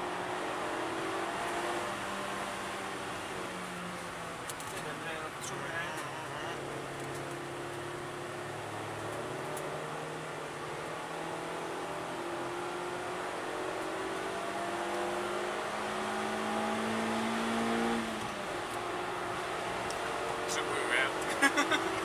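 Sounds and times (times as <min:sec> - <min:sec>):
car engine accelerating: 0:00.0 - 0:22.0
road and tyre noise: 0:00.0 - 0:22.0.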